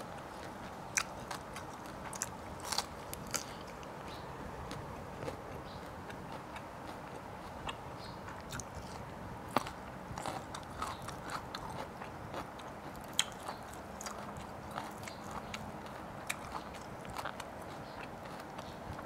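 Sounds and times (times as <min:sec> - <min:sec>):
chewing crispy chicken: 0:00.0 - 0:19.0
crunchy snaps: 0:00.3 - 0:19.0.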